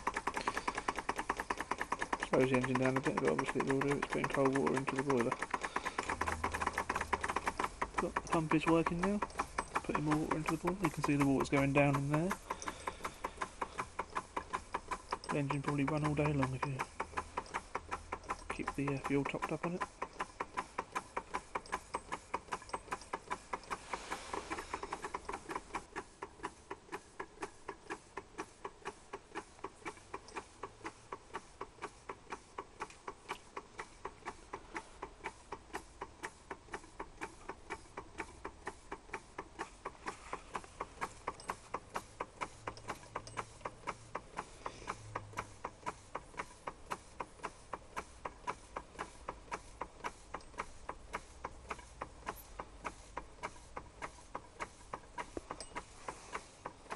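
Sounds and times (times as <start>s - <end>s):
steam engine ticking: 0.0s - 56.9s.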